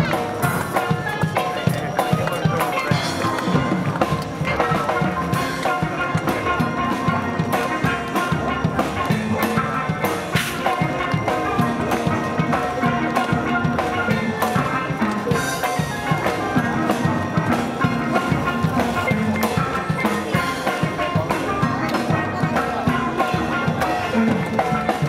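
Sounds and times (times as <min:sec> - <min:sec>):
steady drum beat: 0:00.0 - 0:25.0
steel pan band playing: 0:00.0 - 0:25.0.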